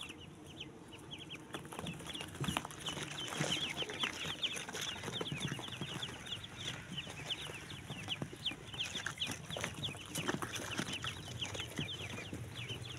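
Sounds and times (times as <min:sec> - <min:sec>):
ducklings peeping: 0:00.0 - 0:12.9.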